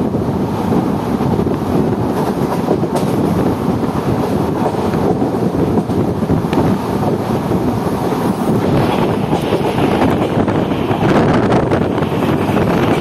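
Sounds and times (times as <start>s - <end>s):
train wheels rumbling on rail: 0.0s - 13.0s
wind on microphone: 0.0s - 13.0s.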